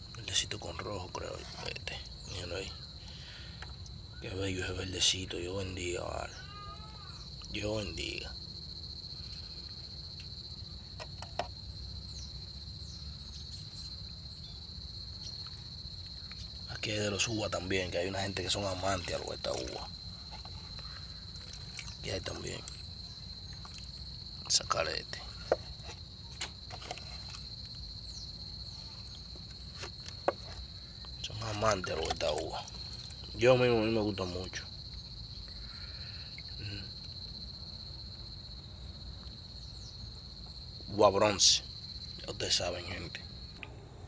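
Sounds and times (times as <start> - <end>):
high-pitched insect trill: 0.0 - 43.6.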